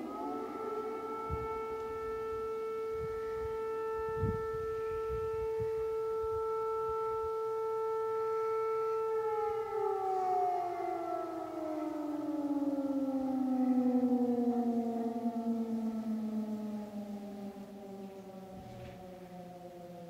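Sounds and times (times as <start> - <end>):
air-raid siren steady tone: 0.0 - 20.0.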